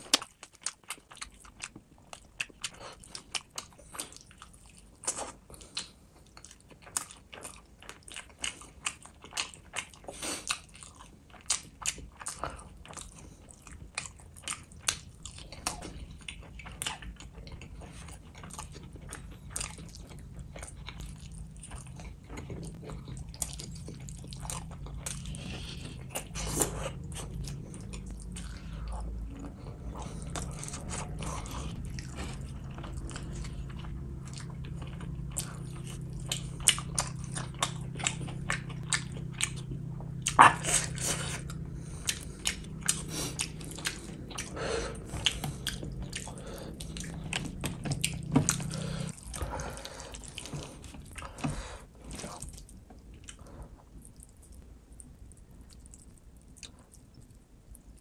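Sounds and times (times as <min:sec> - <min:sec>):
wet chewing and lip smacks: 0:00.0 - 0:51.5.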